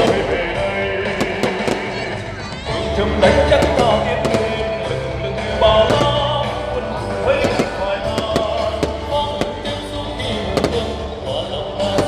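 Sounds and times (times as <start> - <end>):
fireworks cracking: 0.0 - 12.0
loud music: 0.0 - 12.0.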